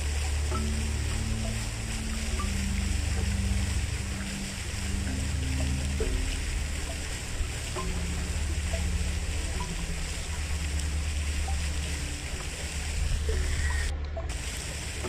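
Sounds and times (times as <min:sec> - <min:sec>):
flowing water rushing: 0:00.0 - 0:15.0
low rumble: 0:00.0 - 0:15.0.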